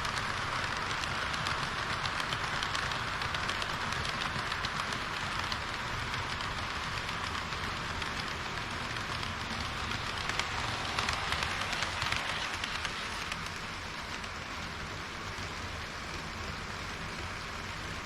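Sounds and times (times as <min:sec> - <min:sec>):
model train wheels on rails: 0:00.0 - 0:18.0.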